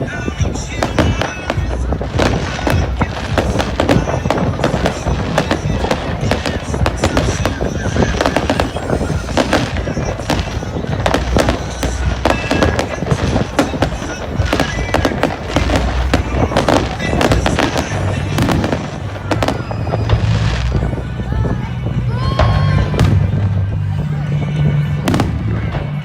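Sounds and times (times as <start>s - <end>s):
fireworks bangs and crackling: 0.0s - 26.0s
low rumble: 0.0s - 26.0s.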